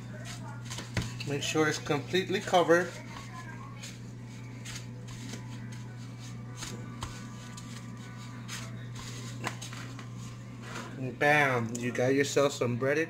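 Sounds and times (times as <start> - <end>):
steady low hum: 0.0 - 12.8
breadcrumbs rustling and scraping: 0.2 - 11.0.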